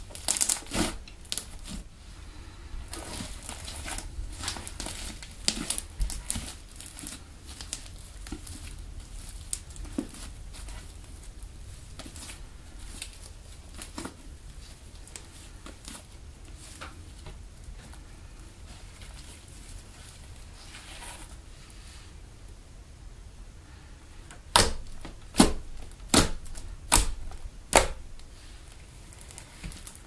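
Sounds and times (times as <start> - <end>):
slime squishing by hand: 0.0 - 21.5, 24.2 - 30.0.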